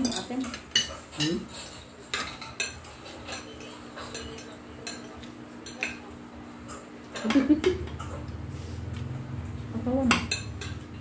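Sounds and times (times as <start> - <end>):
cutlery clinking on plates: 0.0 - 8.3, 10.0 - 11.0.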